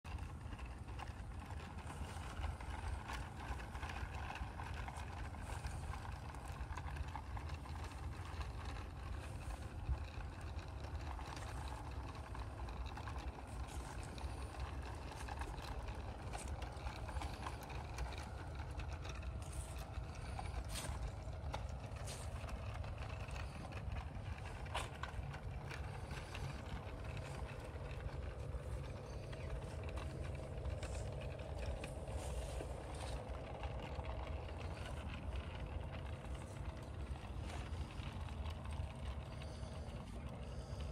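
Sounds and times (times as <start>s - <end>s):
model train wheels rumbling: 0.0s - 40.9s
wheels clicking over rail joints: 0.0s - 40.9s.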